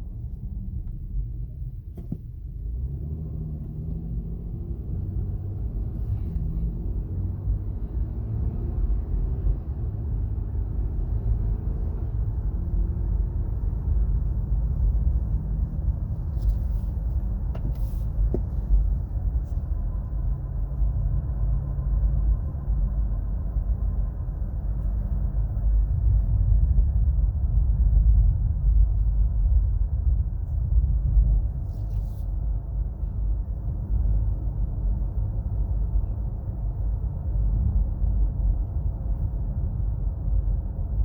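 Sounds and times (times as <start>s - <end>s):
car cabin road rumble: 0.0s - 41.0s.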